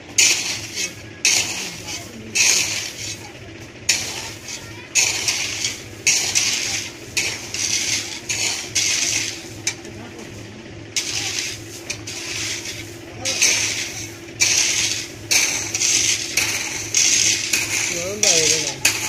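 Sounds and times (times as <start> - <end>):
low engine hum: 0.0 - 19.0
metallic clattering and scraping: 0.0 - 19.0.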